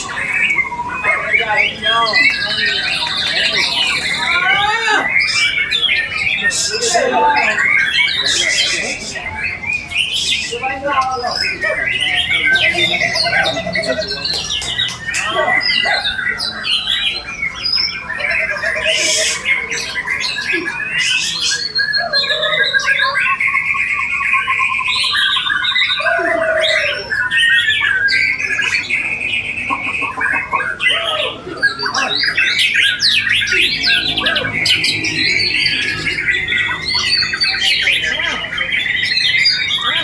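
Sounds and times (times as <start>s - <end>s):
songbirds singing in chorus: 0.0s - 40.0s.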